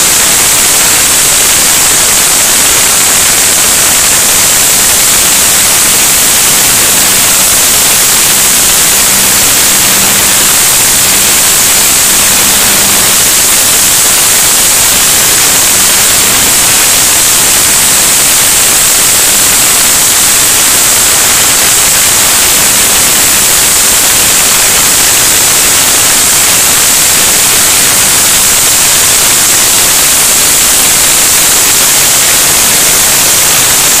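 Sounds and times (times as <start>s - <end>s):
blower air rushing: 0.0s - 34.0s.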